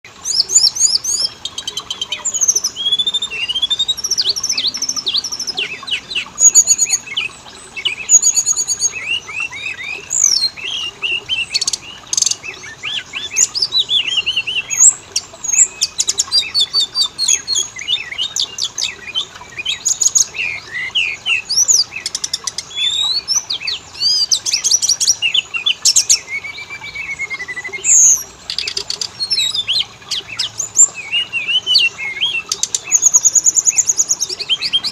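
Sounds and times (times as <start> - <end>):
bird singing: 0.1 - 34.9.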